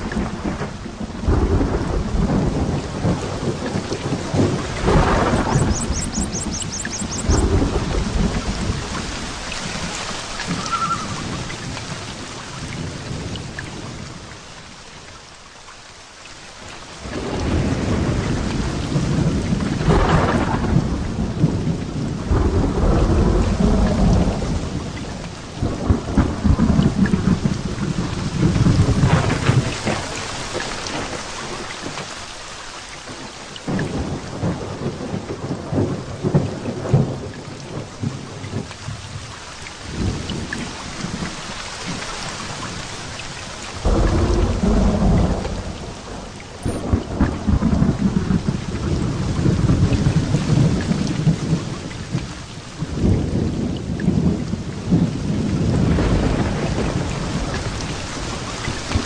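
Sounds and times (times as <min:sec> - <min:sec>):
rolling thunder with crackles: 0:00.0 - 0:14.6, 0:16.6 - 0:32.3, 0:33.0 - 0:59.0
heavy rain falling: 0:00.0 - 0:59.0.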